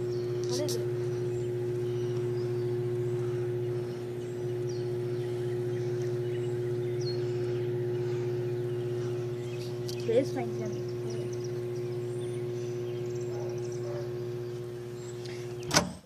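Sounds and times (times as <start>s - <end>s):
high steady tone: 0.0s - 15.2s
microwave oven hum: 0.0s - 16.0s.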